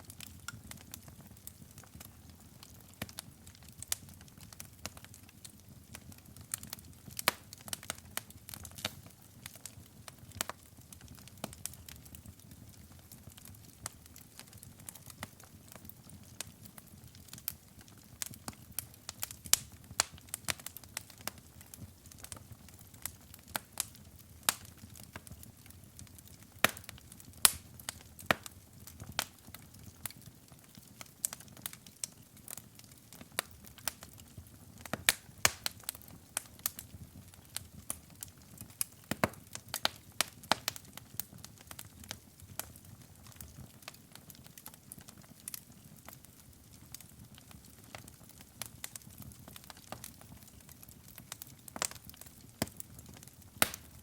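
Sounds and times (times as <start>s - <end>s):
fire pops and snaps: 0.0s - 54.0s
rumble of burning logs: 0.0s - 54.0s.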